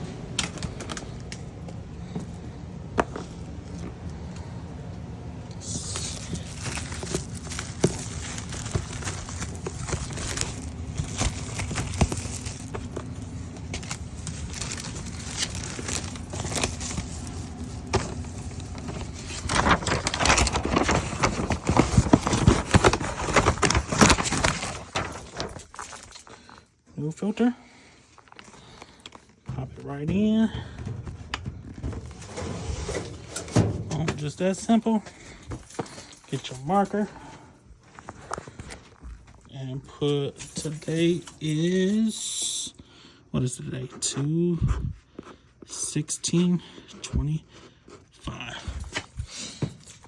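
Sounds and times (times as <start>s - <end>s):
steady low hum: 0.0s - 41.5s.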